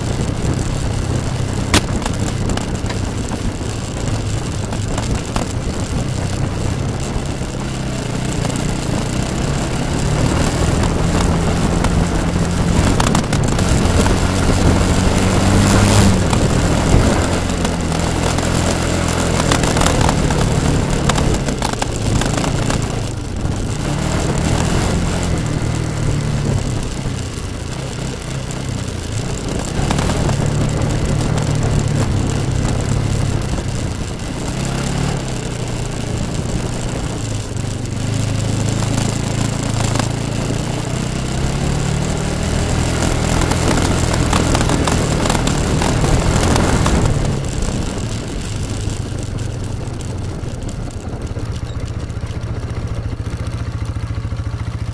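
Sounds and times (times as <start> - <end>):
atv engine revving: 0.0 - 54.9.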